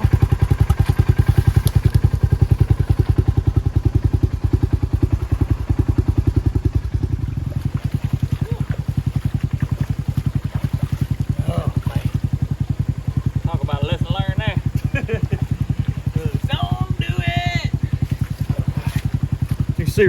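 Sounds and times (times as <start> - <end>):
utility vehicle engine idling: 0.0 - 20.0.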